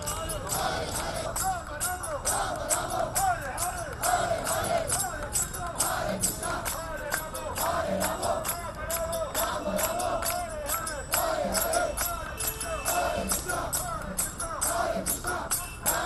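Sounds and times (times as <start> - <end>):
hand claps: 0.0 - 15.7
crowd singing a chant: 0.0 - 16.0
jingling percussion: 0.0 - 16.0.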